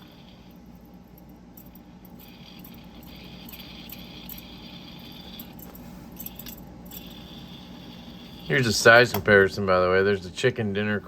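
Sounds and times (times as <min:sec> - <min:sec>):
fidget toy spinning with rattly whir: 0:00.0 - 0:10.0.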